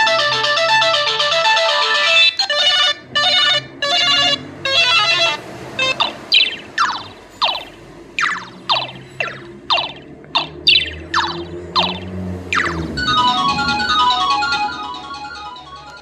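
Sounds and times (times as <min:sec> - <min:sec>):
phone ringtone guitar melody: 0:00.0 - 0:16.0
ringtone chord bursts: 0:00.0 - 0:16.0
ringtone falling chirps: 0:00.0 - 0:16.0.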